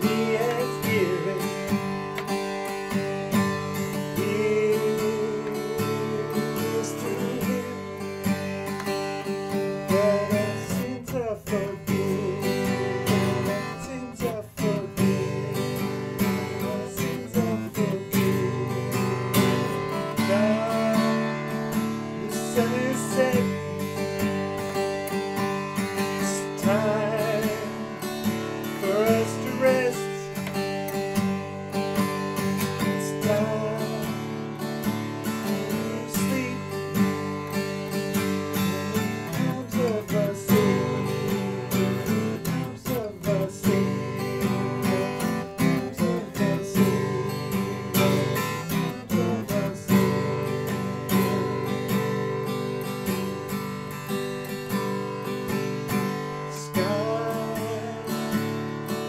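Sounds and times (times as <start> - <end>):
acoustic guitar: 0.0 - 59.0
man singing folk song: 0.0 - 59.0.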